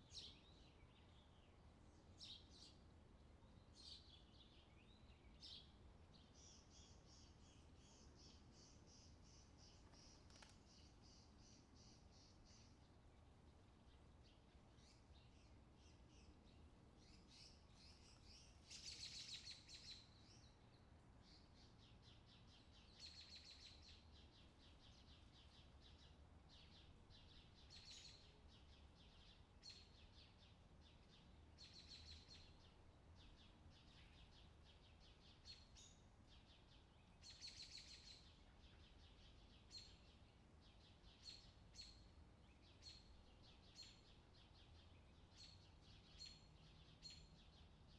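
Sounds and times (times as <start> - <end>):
faint high-pitched chirping: 0.0 - 47.9.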